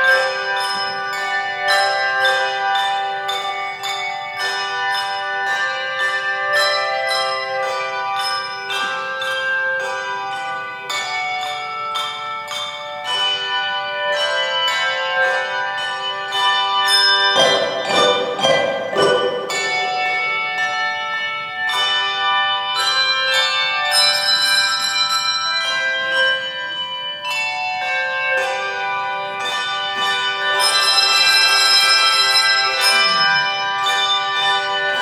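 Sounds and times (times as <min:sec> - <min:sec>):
tuned bells playing chords: 0:00.0 - 0:35.0.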